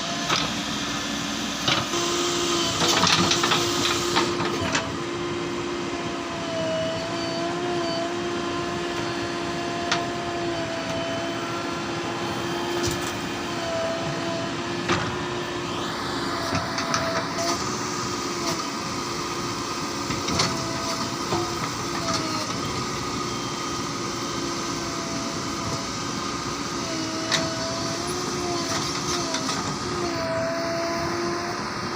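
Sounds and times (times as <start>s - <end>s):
diesel engine running under load: 0.0s - 31.9s.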